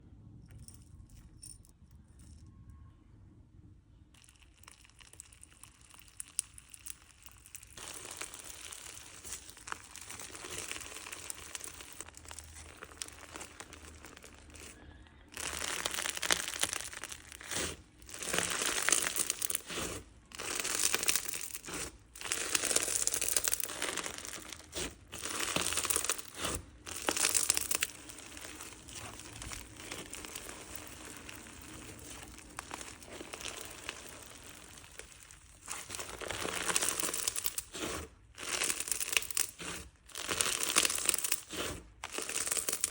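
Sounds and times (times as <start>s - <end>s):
crunchy slime being squeezed: 4.1s - 42.9s.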